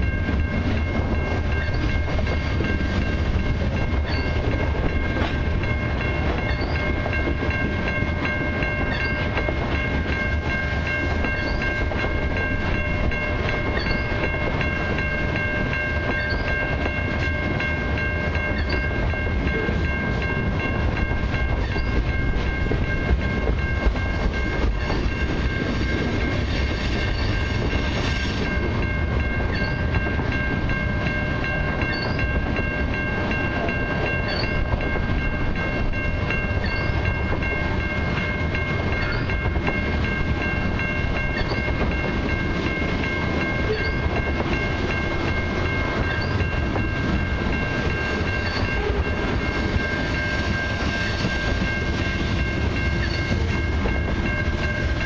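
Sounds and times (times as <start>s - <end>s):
freight train rumbling and clattering: 0.0s - 55.0s
level-crossing bell ringing: 0.0s - 55.0s.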